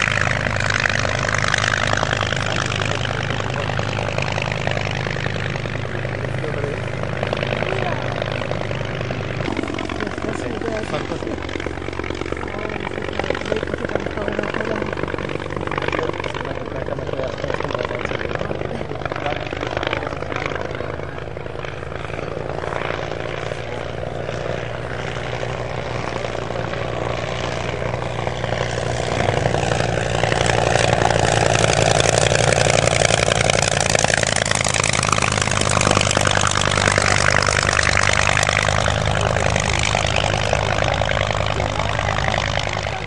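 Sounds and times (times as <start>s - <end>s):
propeller plane droning: 0.0s - 43.0s.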